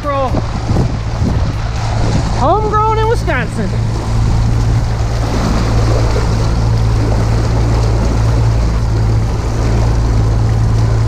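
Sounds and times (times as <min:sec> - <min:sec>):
outboard motor humming: 0:00.0 - 0:11.0
rushing noise: 0:00.0 - 0:11.0.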